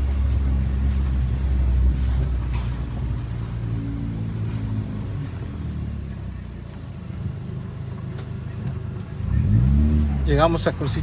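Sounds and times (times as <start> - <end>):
car engine humming: 0.0 - 11.0
road noise: 0.0 - 11.0.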